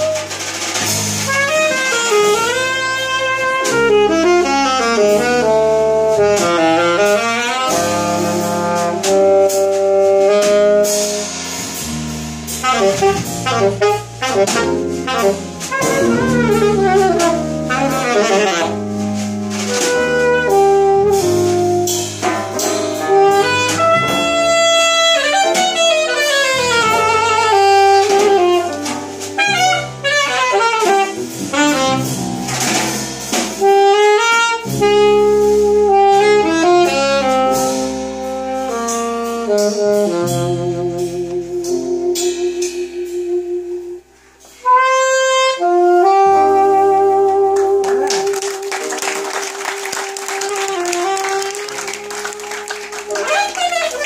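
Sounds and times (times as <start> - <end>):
electric bass: 0.0 - 48.8
alto saxophone playing: 0.0 - 54.0
piano: 0.0 - 54.0.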